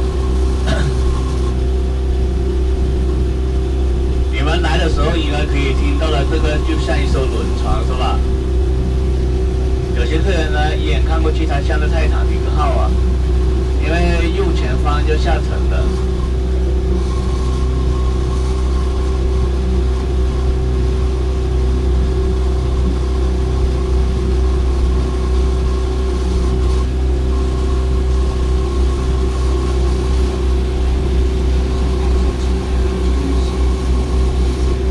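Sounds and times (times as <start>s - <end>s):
boat engine droning: 0.0s - 34.9s
constant hum: 0.0s - 34.9s.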